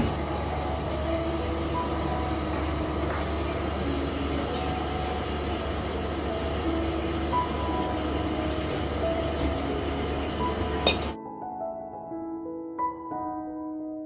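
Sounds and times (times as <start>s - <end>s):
soft instrumental background music: 0.0s - 14.0s.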